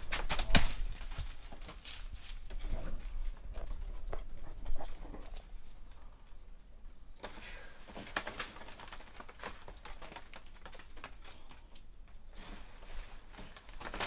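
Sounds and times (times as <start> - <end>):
leaves and twigs crackling: 0.0 - 14.0.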